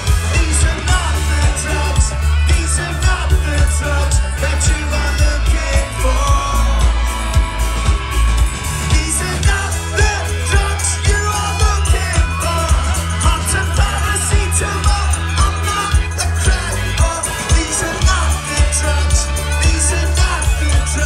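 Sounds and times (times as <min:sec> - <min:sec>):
drums on steady beat: 0:00.0 - 0:21.0
heavy bass: 0:00.0 - 0:21.0
person singing: 0:00.0 - 0:21.0.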